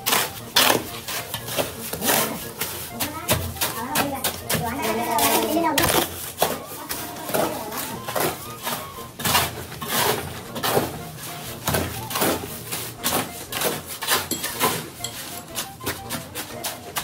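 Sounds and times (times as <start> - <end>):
shovel scraping wet mortar: 0.0 - 17.0.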